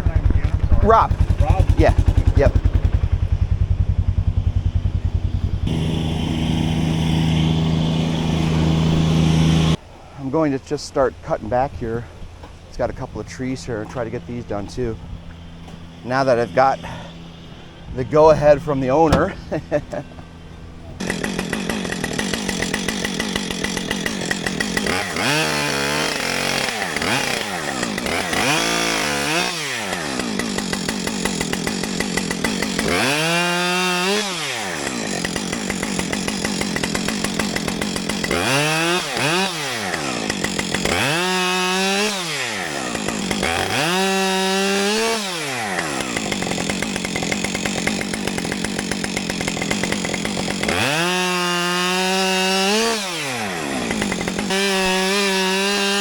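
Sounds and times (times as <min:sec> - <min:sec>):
chainsaw revving and cutting: 0:00.0 - 0:09.8, 0:13.5 - 0:20.4, 0:21.0 - 0:56.0.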